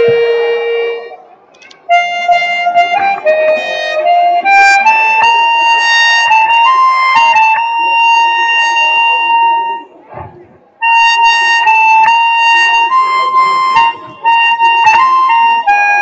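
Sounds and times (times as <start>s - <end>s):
amplified harmonica tune: 0.0s - 1.2s, 1.9s - 10.0s, 10.8s - 16.0s.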